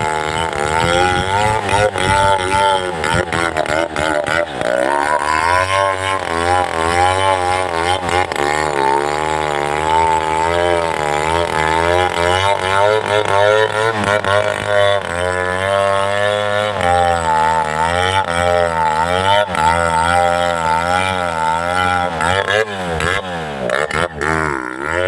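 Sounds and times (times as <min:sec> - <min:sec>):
chainsaw cutting tree trunk: 0:00.0 - 0:25.0.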